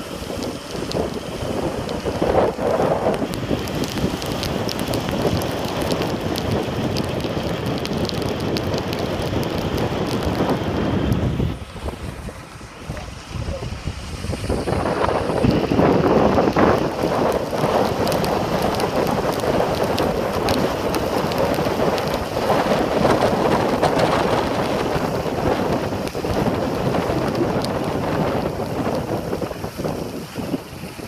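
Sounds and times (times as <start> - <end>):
wind and road noise: 0.0 - 31.0
small crackles: 0.2 - 11.3, 15.4 - 31.0.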